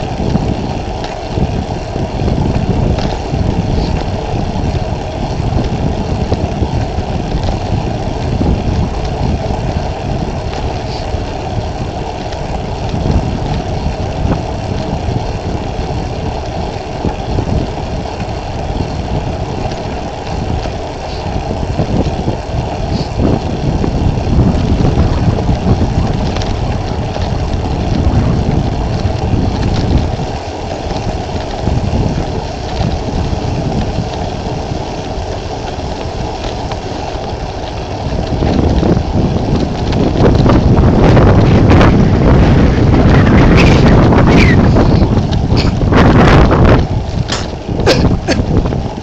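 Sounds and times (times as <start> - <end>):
vehicle engine and road noise: 0.0 - 49.0.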